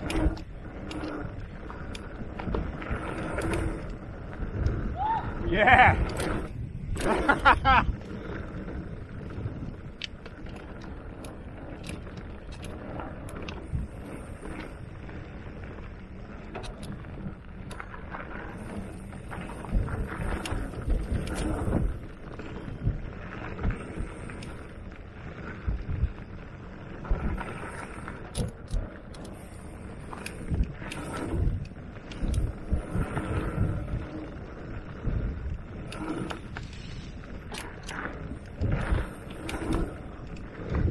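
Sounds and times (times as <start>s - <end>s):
bike knocking and rattling: 0.0s - 40.9s
tyres rumbling on dirt trail: 0.0s - 40.9s
wind on microphone: 0.0s - 40.9s.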